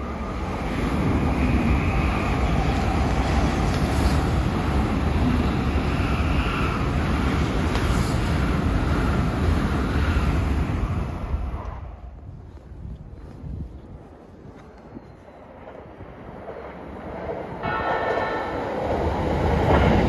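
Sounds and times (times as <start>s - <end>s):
bullet train passing at speed: 0.0s - 12.9s, 13.9s - 20.0s
wheels rushing on rail: 0.0s - 20.0s.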